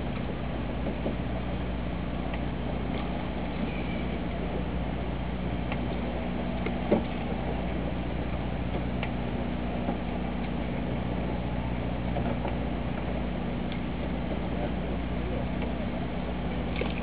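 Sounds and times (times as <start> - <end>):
boat machinery humming: 0.0 - 17.0.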